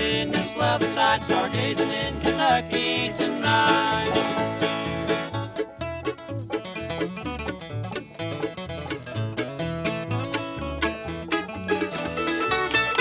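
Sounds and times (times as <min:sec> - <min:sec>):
bluegrass string band playing: 0:00.0 - 0:13.0.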